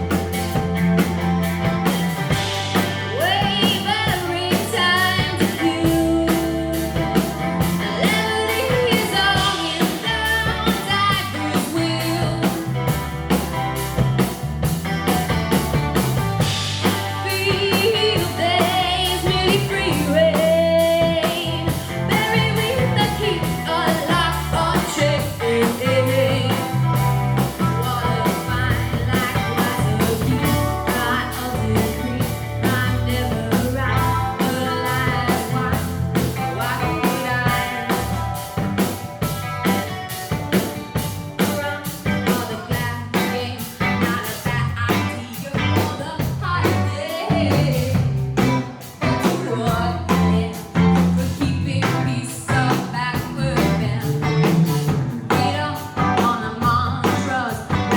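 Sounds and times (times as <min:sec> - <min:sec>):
live pop-rock band: 0:00.0 - 0:57.9
wavering lead guitar line: 0:00.0 - 0:57.9.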